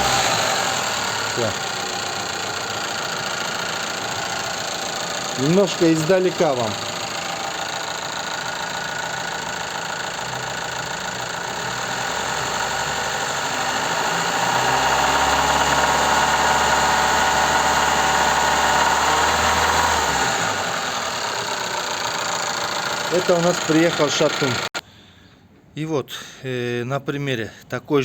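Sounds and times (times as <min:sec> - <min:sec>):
car engine idling and revving: 0:00.0 - 0:24.8
engine rod knocking: 0:00.0 - 0:24.8.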